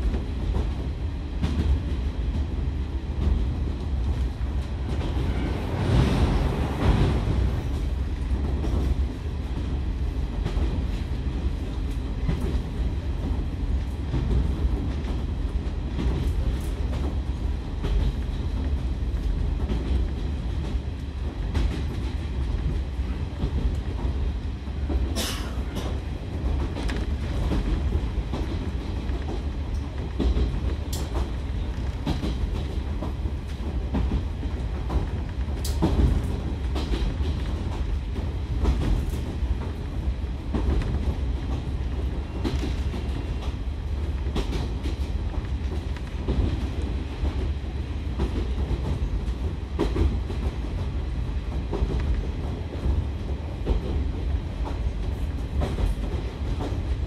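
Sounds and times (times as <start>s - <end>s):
railcar engine and wheels rumbling: 0.0s - 57.0s.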